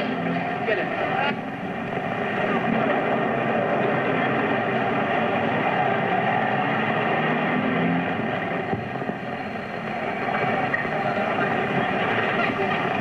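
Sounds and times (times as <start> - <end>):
film soundtrack hiss: 0.0 - 13.0
jeep engine running: 0.0 - 13.0.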